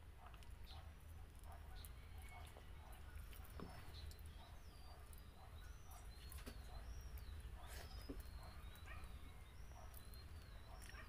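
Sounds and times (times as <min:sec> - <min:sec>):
quiet chewing: 0:00.1 - 0:11.0
faint bird chirps: 0:01.7 - 0:11.0.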